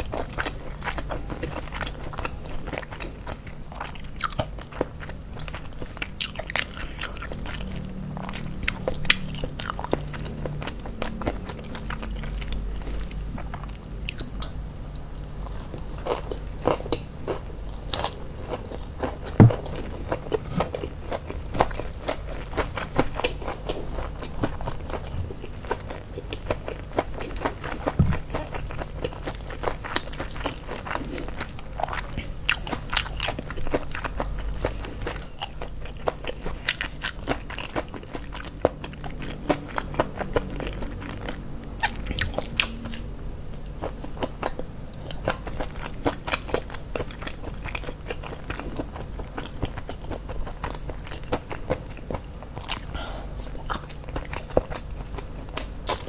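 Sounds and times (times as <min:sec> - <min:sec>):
person chewing crispy chicken: 0:00.0 - 0:56.0.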